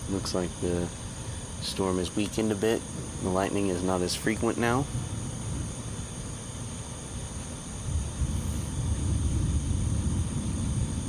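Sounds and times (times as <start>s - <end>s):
distant thunder rumbling: 0.0s - 11.0s
insects chirring: 0.0s - 11.0s.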